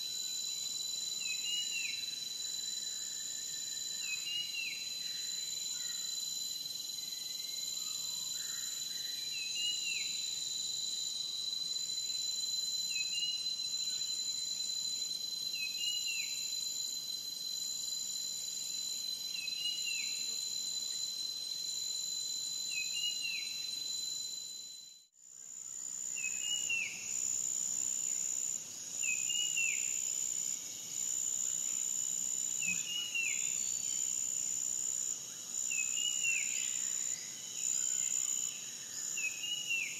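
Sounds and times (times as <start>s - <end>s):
insect trill: 0.0s - 39.9s.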